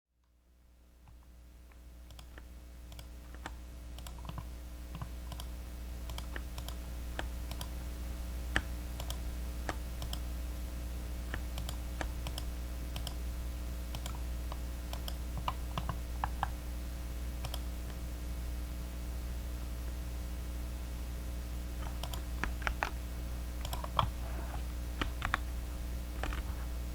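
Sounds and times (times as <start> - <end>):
steady low hum: 0.2 - 26.9.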